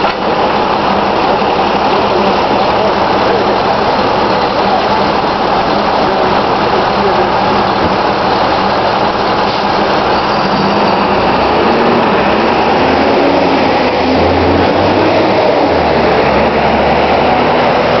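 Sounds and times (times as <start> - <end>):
bus diesel engine passing: 0.0 - 18.0.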